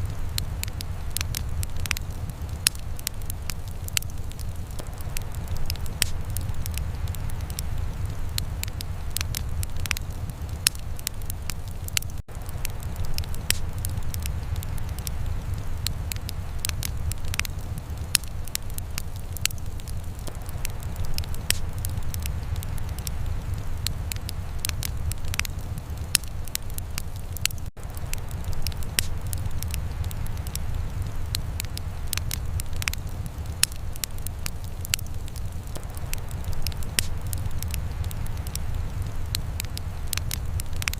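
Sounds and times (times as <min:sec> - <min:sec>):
fire low rumble: 0:00.0 - 0:40.9
wood fire crackling and popping: 0:00.0 - 0:40.9.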